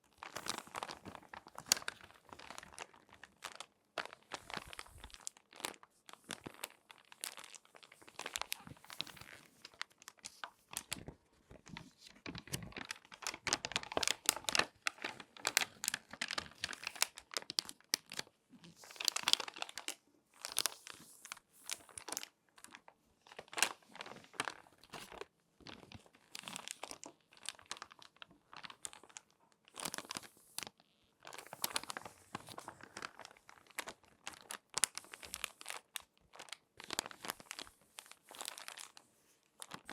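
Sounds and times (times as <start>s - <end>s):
magazine pages crinkling: 0.1s - 39.9s.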